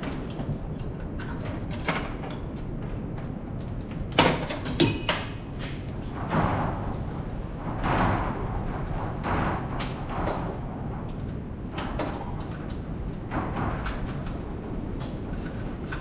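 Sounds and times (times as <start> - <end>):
tools and parts clunking and scraping: 0.0 - 14.4.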